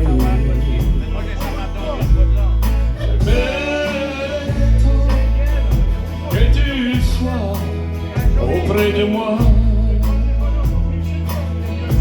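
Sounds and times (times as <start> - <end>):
live band playing: 0.0 - 12.0
person singing: 0.0 - 12.0.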